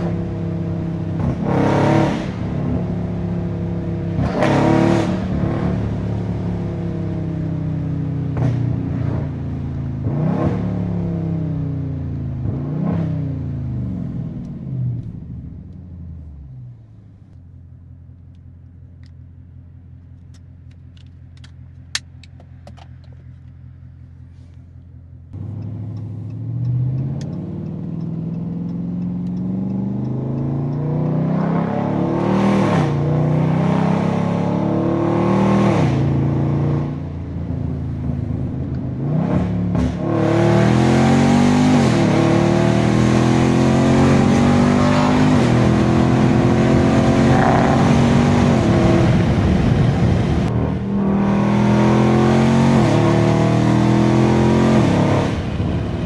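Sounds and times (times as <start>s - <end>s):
car engine accelerating hard: 0.0s - 16.8s, 25.3s - 56.0s.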